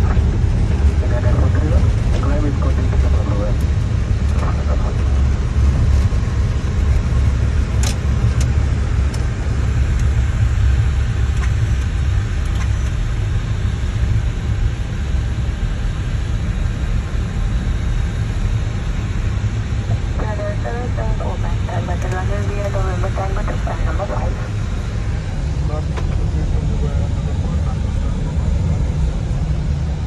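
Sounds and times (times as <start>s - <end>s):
low rumble of engines and wheels: 0.0s - 30.0s.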